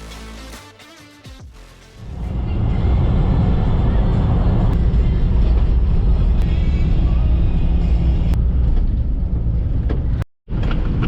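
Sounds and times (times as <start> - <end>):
low engine rumble: 2.0 - 11.0.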